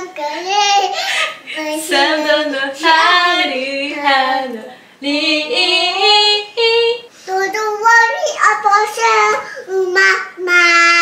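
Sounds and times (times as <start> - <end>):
girl and woman singing: 0.0 - 11.0.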